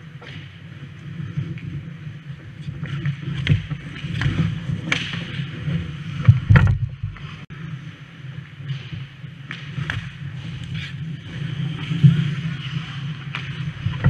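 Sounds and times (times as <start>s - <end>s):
skate blades scraping ice: 0.0s - 14.0s.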